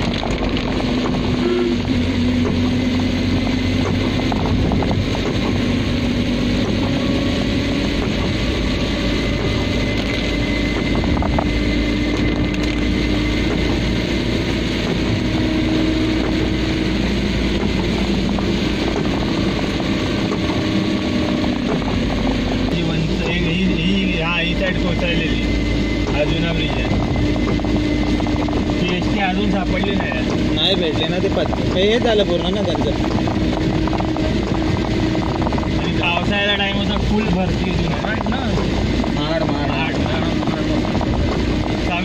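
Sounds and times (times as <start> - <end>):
car engine hum: 0.0 - 42.0
tyres and rain on wet road: 0.0 - 42.0.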